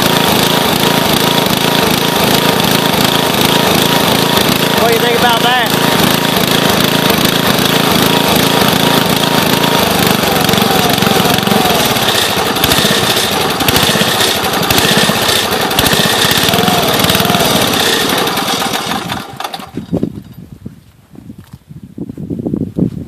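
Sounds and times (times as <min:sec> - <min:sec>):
small gasoline engine running: 0:00.0 - 0:20.3.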